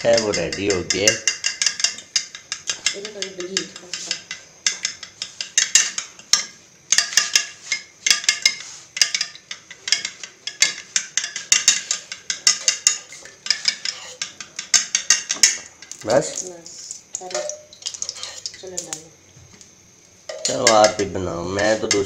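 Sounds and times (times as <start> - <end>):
spoon beating eggs in bowl: 0.0 - 16.0, 17.2 - 18.9, 20.3 - 22.0.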